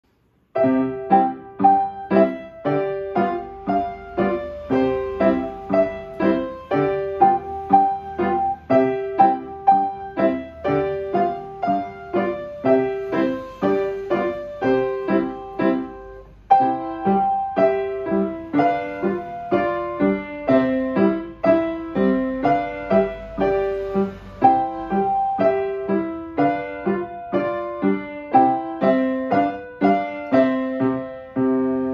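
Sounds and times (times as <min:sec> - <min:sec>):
piano played four hands: 0:00.0 - 0:31.9.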